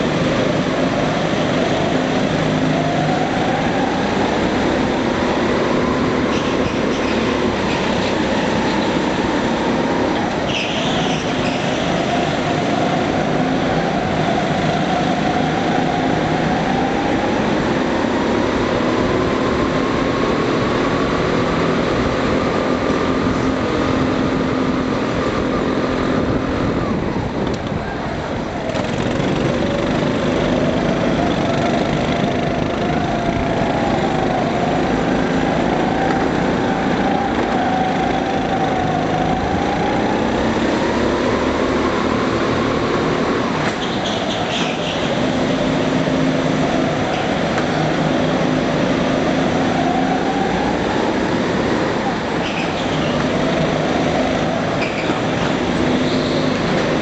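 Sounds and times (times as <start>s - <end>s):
go-kart engines revving: 0.0s - 57.0s.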